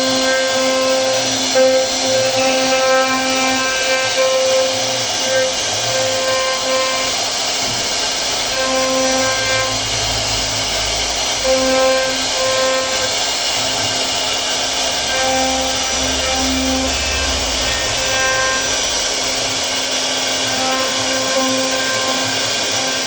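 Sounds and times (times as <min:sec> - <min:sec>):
router spindle cutting wood: 0:00.0 - 0:23.0.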